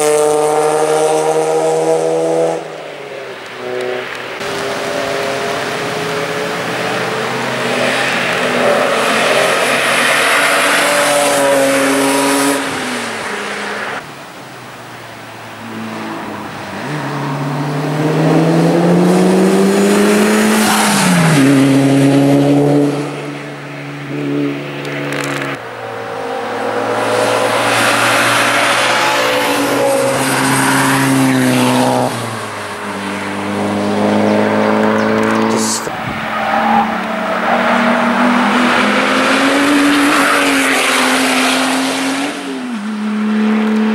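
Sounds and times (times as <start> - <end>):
sports cars passing: 0.0 - 43.9.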